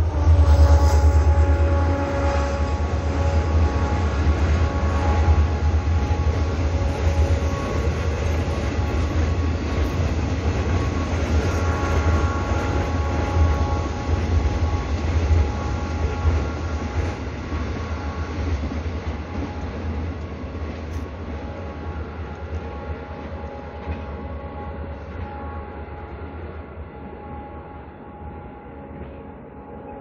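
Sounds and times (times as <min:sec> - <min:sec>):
freight train rumbling past: 0:00.0 - 0:30.0.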